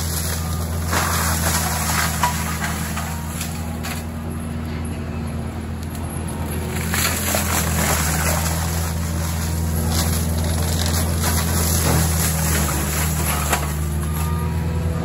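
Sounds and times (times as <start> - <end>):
diesel engine drone: 0.0 - 15.0
mulcher shredding brush: 0.0 - 15.0.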